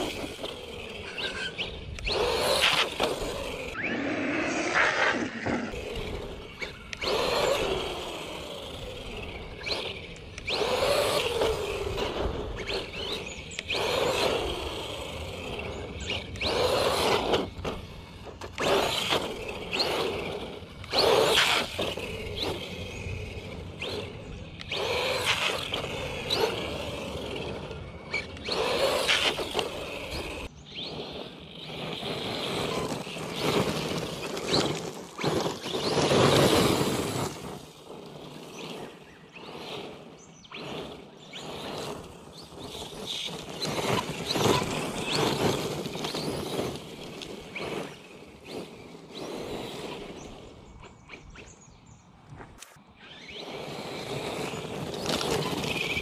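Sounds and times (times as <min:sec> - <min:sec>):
rc car motor and tyre noise: 0:00.0 - 0:56.0.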